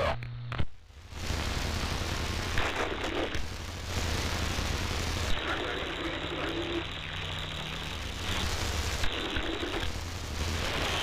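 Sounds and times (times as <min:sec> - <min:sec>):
radio static and hum: 0:00.0 - 0:11.0.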